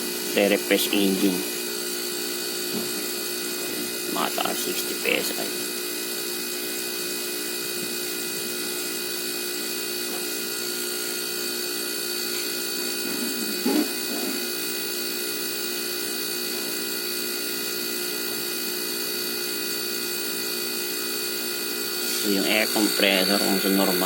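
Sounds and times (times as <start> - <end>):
compressor humming: 0.0 - 24.0.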